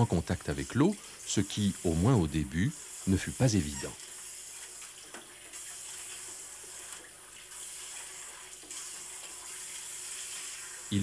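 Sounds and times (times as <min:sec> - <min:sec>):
shower water running into tub: 0:00.0 - 0:11.0.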